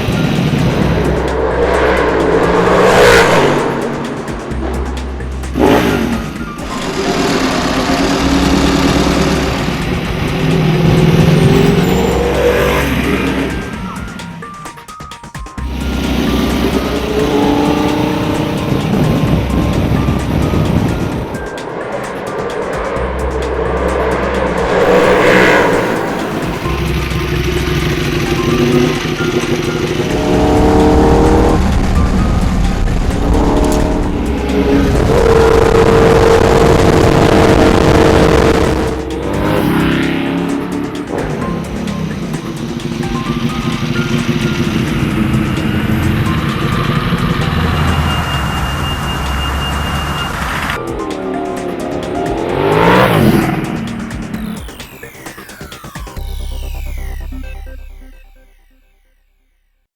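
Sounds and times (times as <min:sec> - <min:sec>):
motorcycle engine revving: 0:00.0 - 0:14.9, 0:15.5 - 0:57.3.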